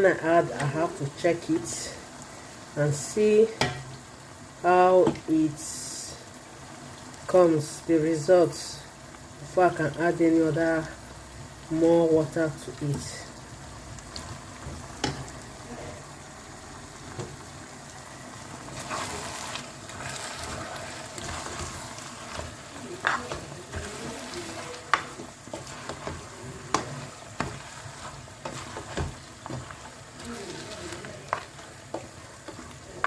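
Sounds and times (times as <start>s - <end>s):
stew sizzling in a pot: 0.0s - 33.0s.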